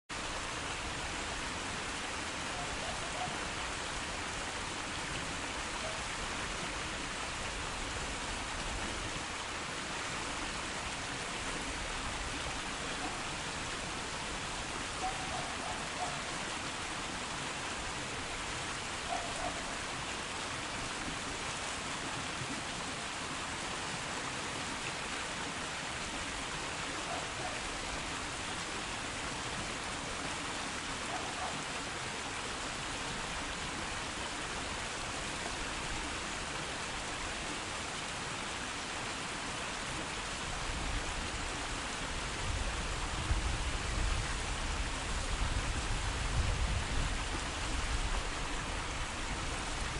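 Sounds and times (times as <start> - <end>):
stream flowing: 0.1 - 49.9.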